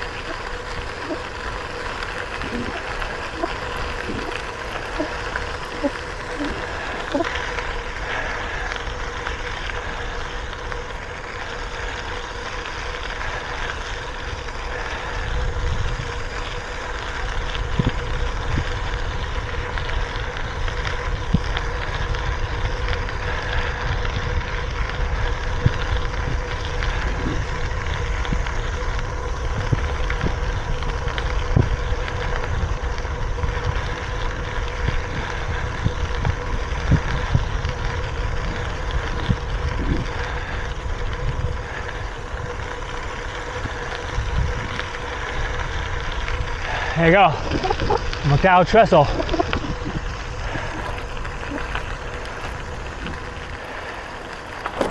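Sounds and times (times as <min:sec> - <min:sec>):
bicycle tyres rolling on gravel: 0:00.0 - 0:54.9
faint steady hum: 0:00.0 - 0:54.9
wind noise on microphone: 0:00.0 - 0:54.9.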